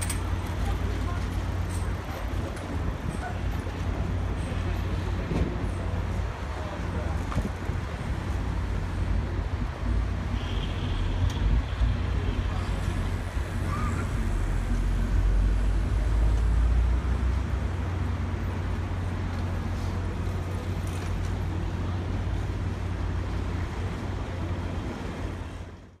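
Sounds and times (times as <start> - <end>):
ferry engine rumble: 0.0 - 26.0
outdoor hubbub: 0.0 - 26.0.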